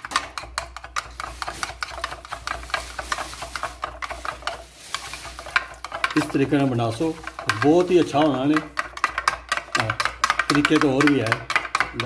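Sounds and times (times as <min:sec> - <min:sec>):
metal spoon beating eggs in bowl: 0:00.0 - 0:12.0.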